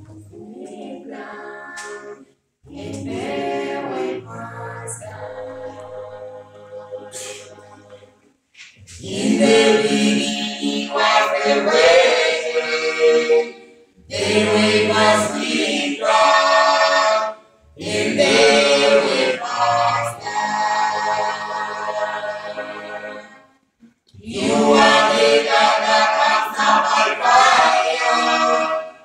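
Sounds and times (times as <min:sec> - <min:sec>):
vocal group singing in harmony: 0:00.0 - 0:29.0.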